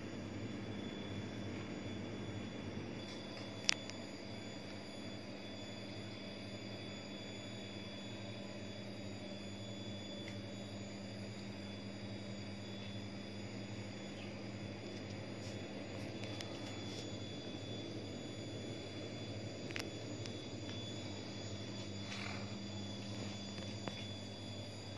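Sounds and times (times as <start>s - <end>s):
chest freezer humming: 0.0s - 24.9s
faint high whining tones: 0.0s - 24.9s.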